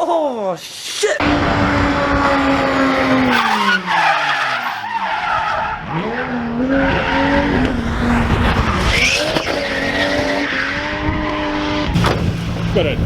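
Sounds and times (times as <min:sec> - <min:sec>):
car engine revving: 0:01.2 - 0:13.0
tyres skidding and spinning: 0:01.2 - 0:13.0.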